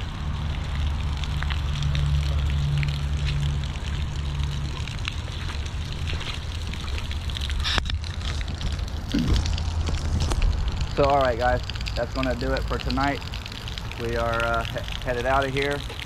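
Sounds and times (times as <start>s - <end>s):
rain dripping: 0.0s - 16.0s
steady low rumble: 0.0s - 16.0s
water trickling: 0.0s - 16.0s.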